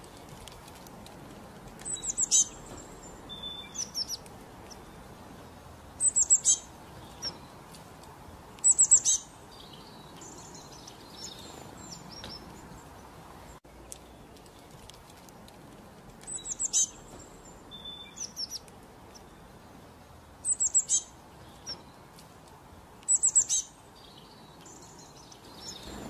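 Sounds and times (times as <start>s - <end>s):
small birds chirping: 0.0s - 26.0s
steady low hiss: 0.0s - 26.0s.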